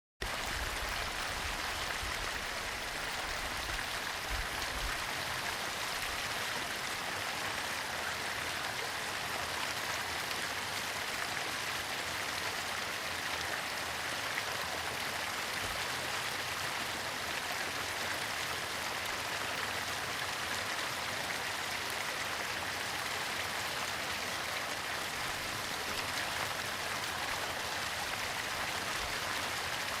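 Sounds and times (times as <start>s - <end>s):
small waterfall rushing: 0.2s - 30.0s.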